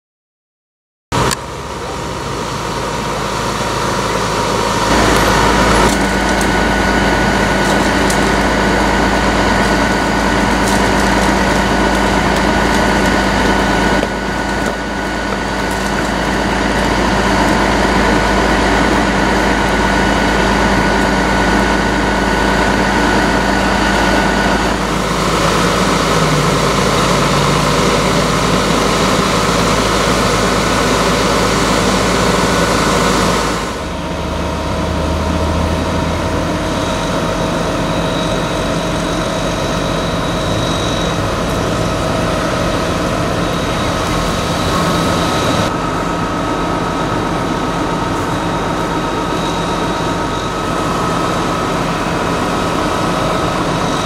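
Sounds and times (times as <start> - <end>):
thin whine: 1.2 - 54.0
truck engine idling: 1.2 - 54.0.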